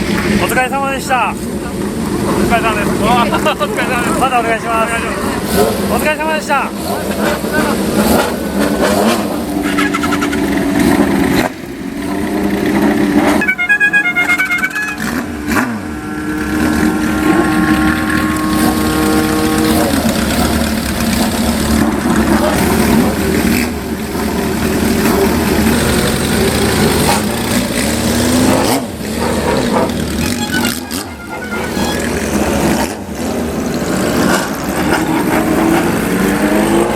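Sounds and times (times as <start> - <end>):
motorcycles and cars revving: 0.0 - 36.9.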